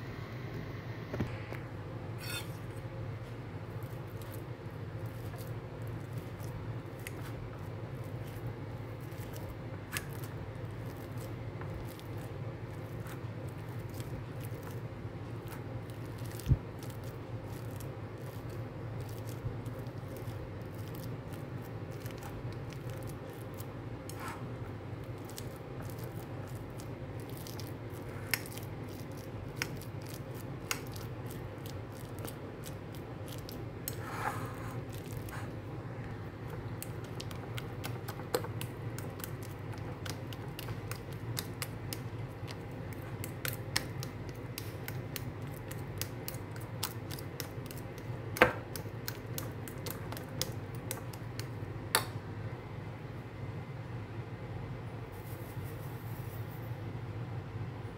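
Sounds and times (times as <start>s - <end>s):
steady low hum: 0.0s - 57.9s
fork mashing bananas: 2.2s - 52.1s.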